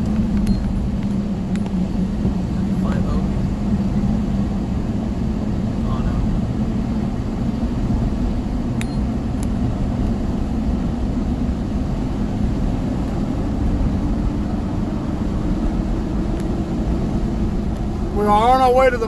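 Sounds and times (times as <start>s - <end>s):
vehicle road and engine rumble: 0.0s - 19.0s.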